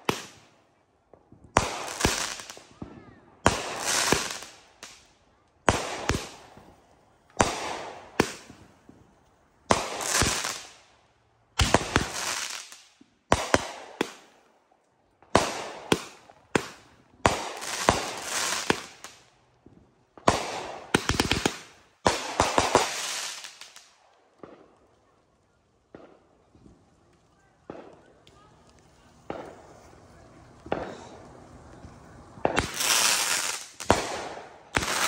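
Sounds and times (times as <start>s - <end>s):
fireworks crackle: 0.0s - 11.0s, 11.6s - 35.0s
fireworks bangs: 1.1s - 5.0s, 5.6s - 10.8s, 11.6s - 14.4s, 15.2s - 24.8s, 25.9s - 35.0s.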